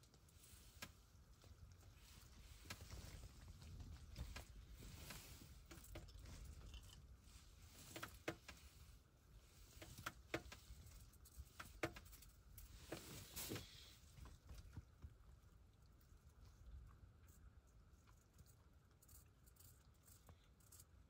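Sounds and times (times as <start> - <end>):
faint clicks and rustles: 0.0 - 21.0.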